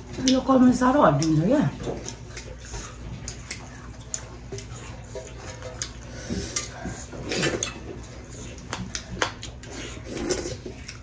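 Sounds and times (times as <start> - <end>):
chewing mouth clicks and smacks: 1.2 - 6.7, 7.6 - 11.0.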